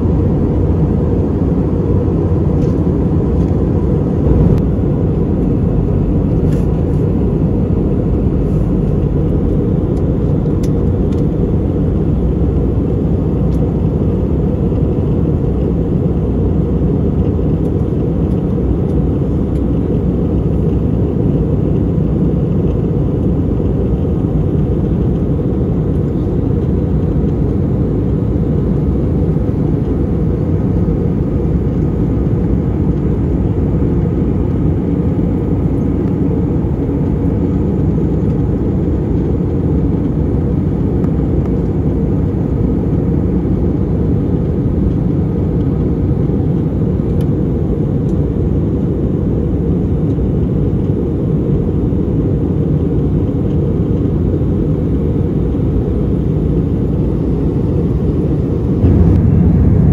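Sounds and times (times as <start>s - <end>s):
airflow over fuselage: 0.0s - 59.9s
airplane cabin engine rumble: 0.0s - 59.9s.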